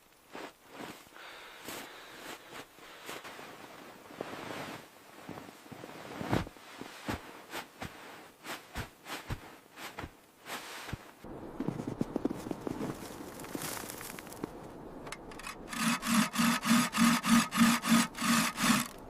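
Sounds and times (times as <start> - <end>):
faint steady hiss: 0.0 - 15.7.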